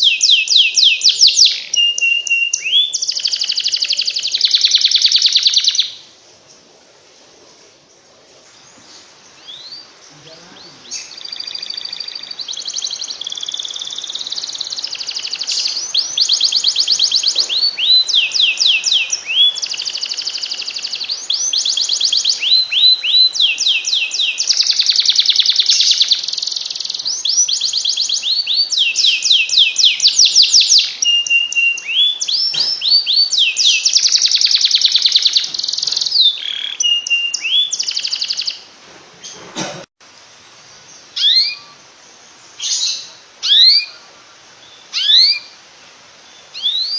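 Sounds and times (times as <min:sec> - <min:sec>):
canary singing trills: 0:00.0 - 0:06.7, 0:07.5 - 0:39.4, 0:40.7 - 0:45.6, 0:46.2 - 0:46.9.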